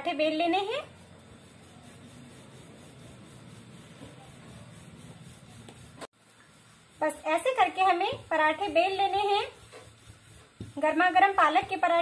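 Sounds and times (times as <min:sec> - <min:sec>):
rolling pin rubbing on dough: 0:00.0 - 0:12.0.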